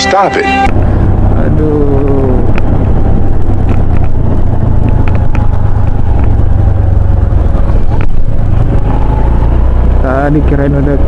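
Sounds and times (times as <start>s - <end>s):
motorcycle engine running: 0.7s - 11.0s
wind rumble on microphone: 0.7s - 11.0s.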